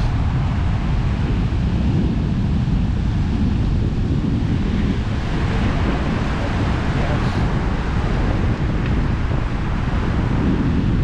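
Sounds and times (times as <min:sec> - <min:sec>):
ocean surf rushing: 0:00.0 - 0:11.0
wind buffeting microphone: 0:00.0 - 0:11.0.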